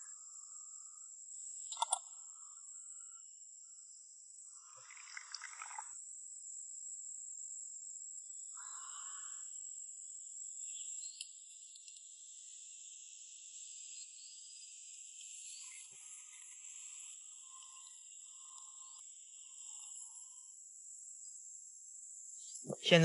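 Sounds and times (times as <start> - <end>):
high-pitched insects chirring: 0.0 - 23.0
lower-pitched insect chorus: 0.0 - 23.0.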